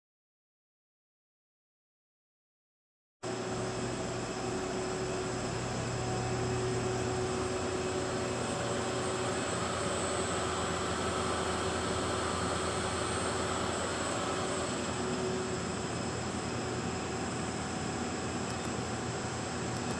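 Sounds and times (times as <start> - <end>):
machining center humming and whining: 3.2 - 19.9.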